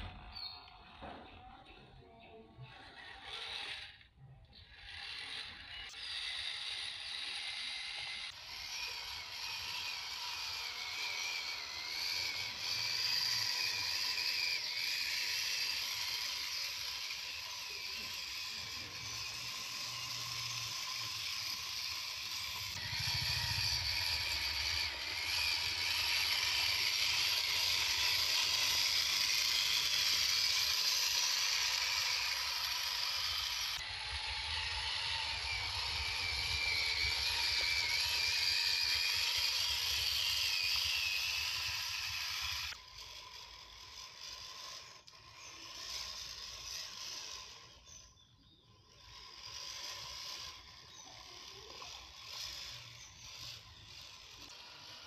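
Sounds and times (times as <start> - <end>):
electric motor and gears whining: 0.0 - 55.0.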